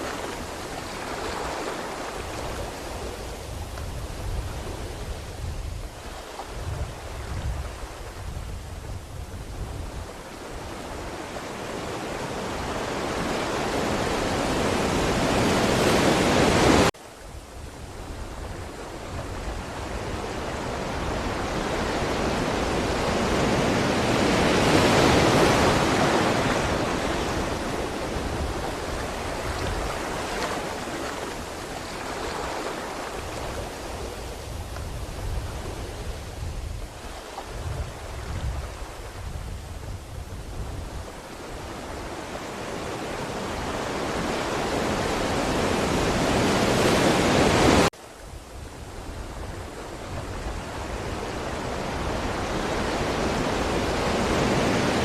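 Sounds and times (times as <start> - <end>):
ocean waves surging onto shore: 0.0 - 55.0.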